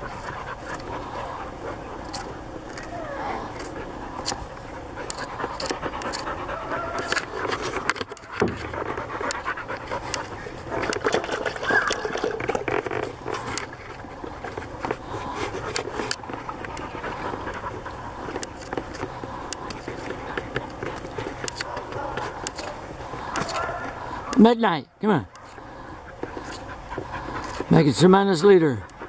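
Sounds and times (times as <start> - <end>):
dogs panting: 0.0 - 29.0.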